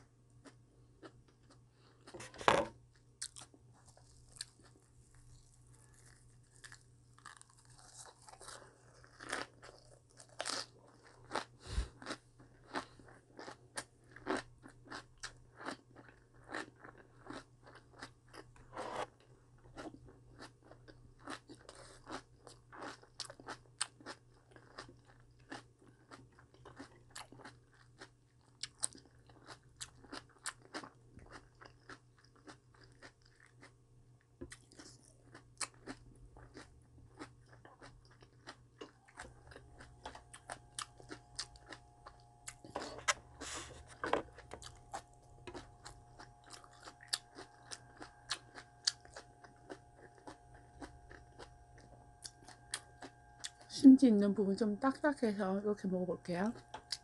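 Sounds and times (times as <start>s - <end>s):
faint low hum: 0.0s - 57.0s
person chewing crunchy vegetables: 0.3s - 33.8s, 34.4s - 53.8s, 56.2s - 57.0s.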